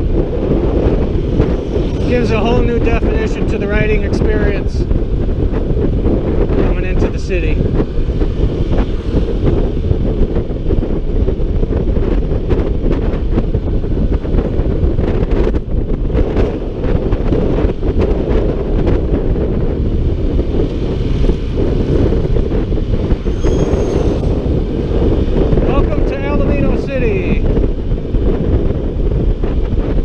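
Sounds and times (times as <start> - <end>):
scooter engine and road noise: 0.0 - 30.0
wind rush on microphone: 0.0 - 30.0.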